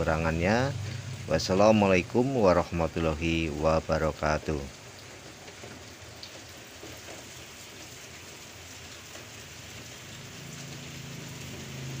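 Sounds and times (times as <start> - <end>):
steady rain-like hiss: 0.0 - 12.0.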